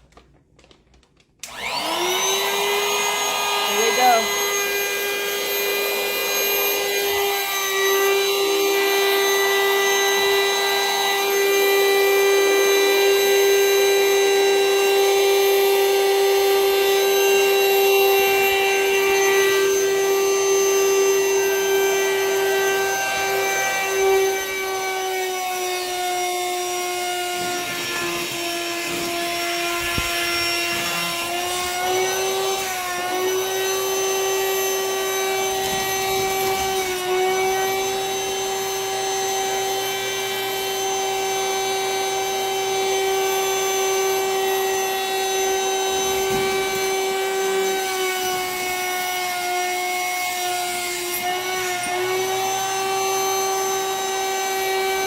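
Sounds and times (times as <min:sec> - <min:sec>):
vacuum motor whining: 0:01.4 - 0:55.0.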